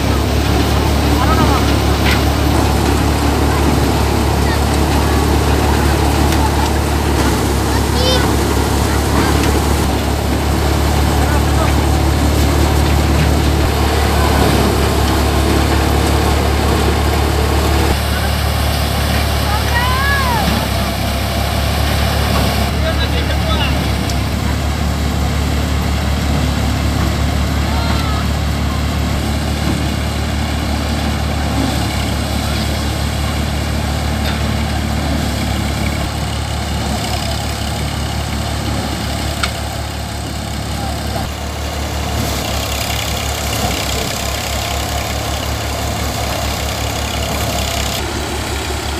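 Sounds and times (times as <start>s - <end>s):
thresher and tractor engine drone: 0.0s - 48.9s.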